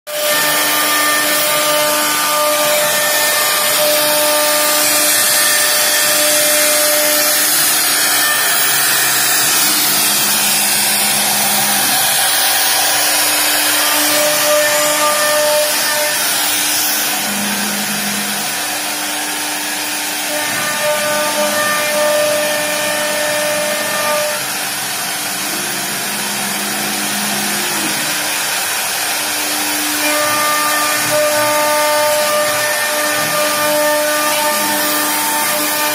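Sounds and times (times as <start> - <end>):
wood router spindle rushing: 0.1 - 35.9.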